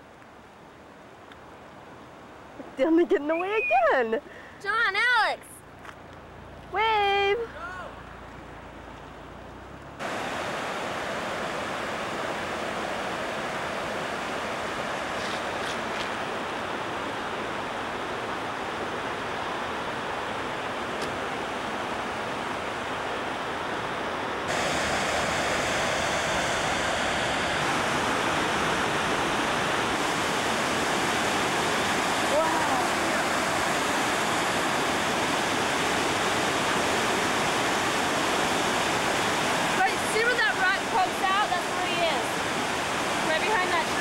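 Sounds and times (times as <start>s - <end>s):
rushing white water: 7.0s - 44.0s.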